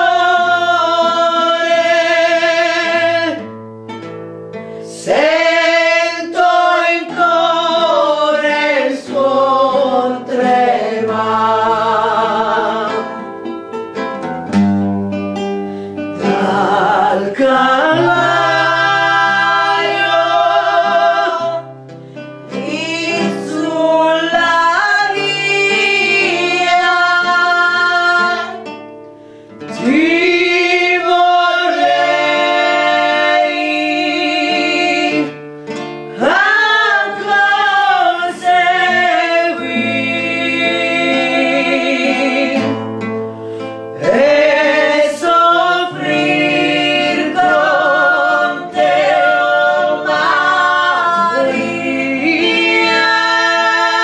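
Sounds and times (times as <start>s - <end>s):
person singing a hymn: 0.0s - 3.5s, 4.9s - 13.3s, 16.1s - 21.7s, 22.5s - 28.7s, 29.7s - 35.4s, 36.1s - 42.9s, 43.5s - 54.0s
guitar accompaniment: 0.0s - 54.0s.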